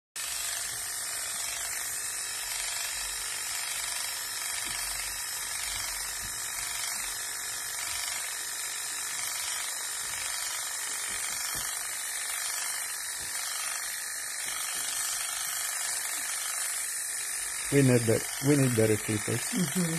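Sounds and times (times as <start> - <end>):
electric clippers running: 0.2 - 19.9.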